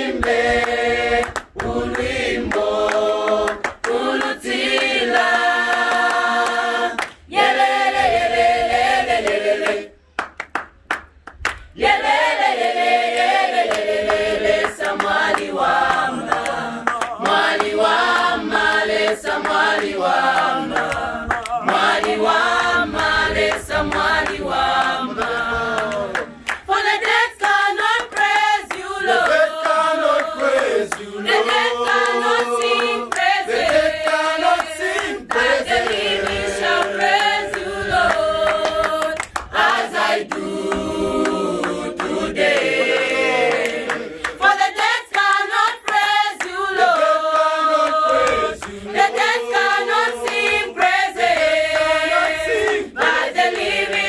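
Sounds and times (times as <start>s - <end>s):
choir singing unaccompanied: 0.0s - 10.0s, 11.8s - 54.0s.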